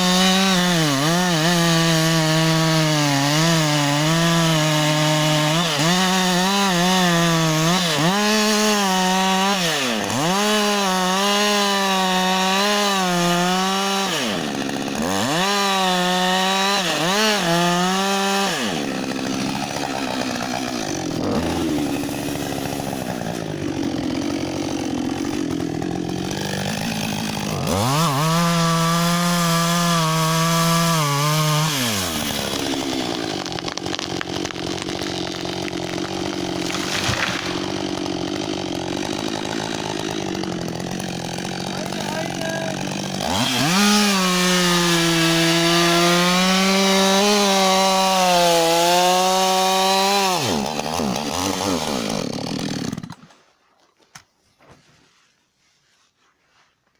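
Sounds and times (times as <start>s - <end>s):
chainsaw running at high revs: 0.0s - 53.3s.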